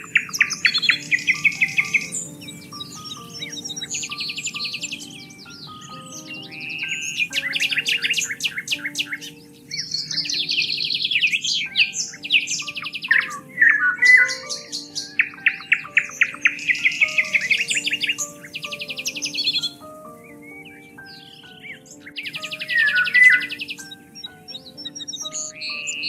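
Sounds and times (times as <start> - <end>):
birds singing and trilling: 0.0 - 26.0.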